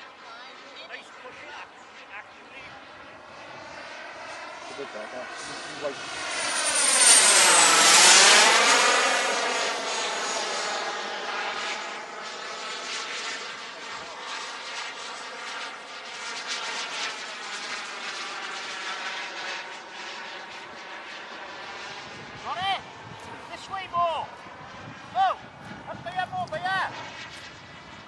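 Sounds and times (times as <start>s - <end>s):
model jet turbine engine passing: 0.0s - 28.0s.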